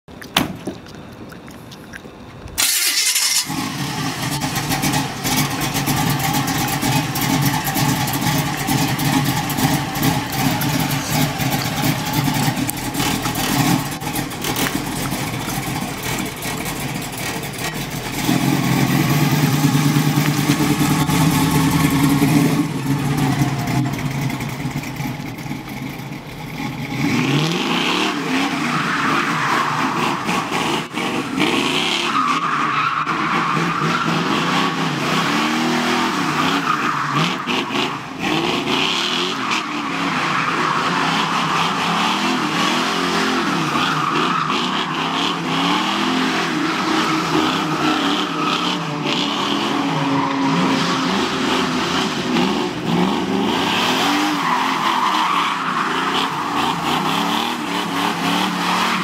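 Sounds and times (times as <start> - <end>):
car engine starting and revving: 2.6 - 59.0.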